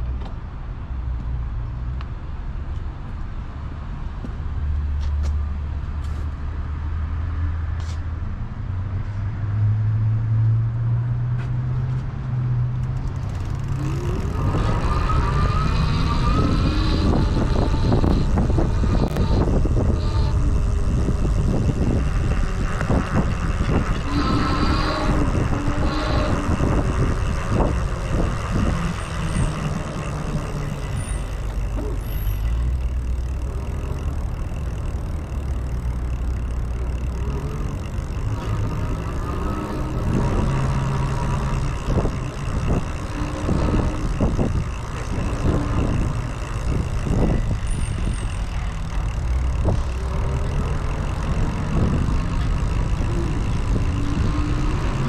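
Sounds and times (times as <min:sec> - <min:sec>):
bike road noise rumble: 0:00.0 - 0:55.0
motor traffic: 0:00.0 - 0:55.0.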